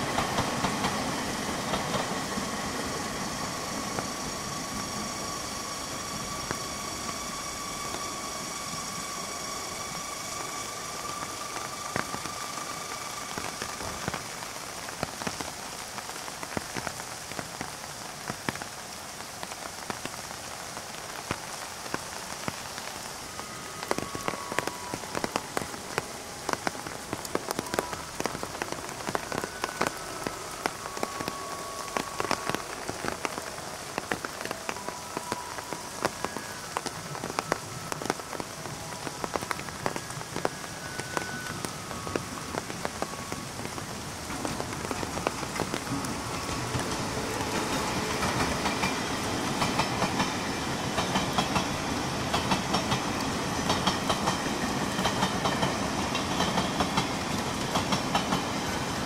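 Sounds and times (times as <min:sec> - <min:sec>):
rain drops on umbrella: 0:00.0 - 0:59.0.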